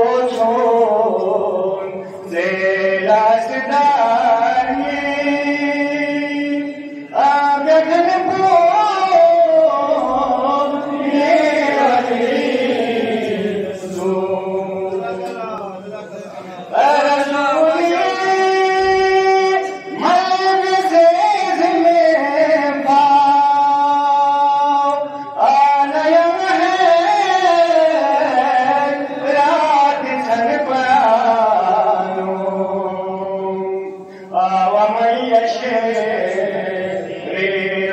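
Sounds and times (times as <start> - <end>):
man chanting: 0.0 - 37.9.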